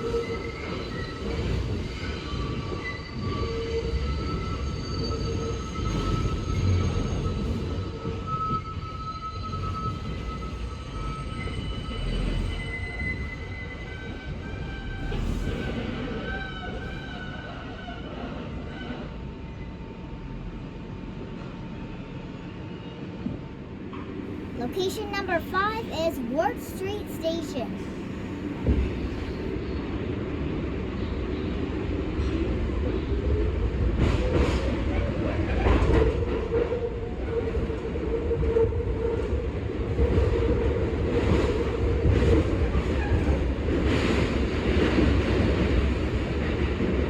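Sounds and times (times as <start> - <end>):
subway train rumbling: 0.0 - 24.8, 27.7 - 47.0.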